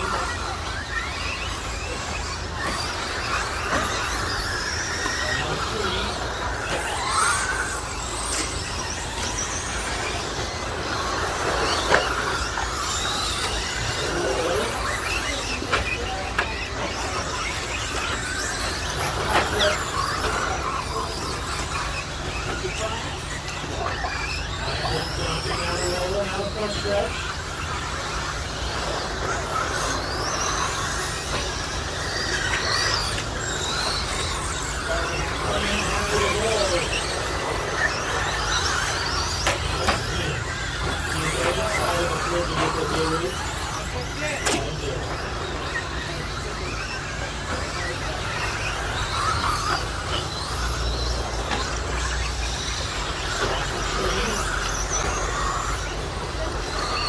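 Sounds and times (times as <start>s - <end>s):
electric rc truck motors whining: 0.0s - 57.0s.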